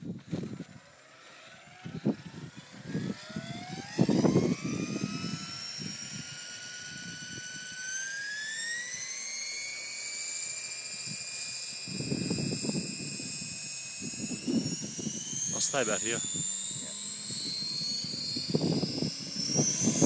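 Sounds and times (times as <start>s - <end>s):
low rumbling buffets: 0.0s - 7.9s, 10.8s - 20.0s
electric helicopter motor whine: 0.0s - 20.0s.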